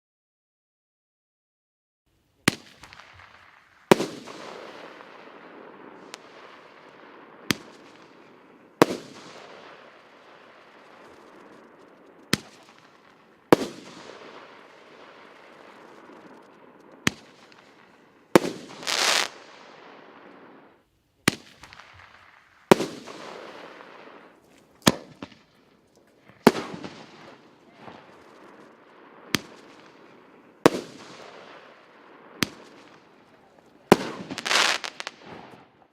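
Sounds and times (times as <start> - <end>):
roman candle firing: 2.4 - 35.9.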